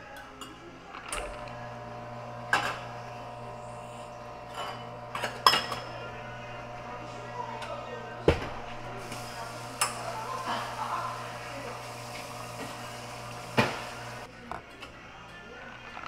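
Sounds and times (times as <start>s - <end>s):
steady machine hum: 1.1s - 14.3s.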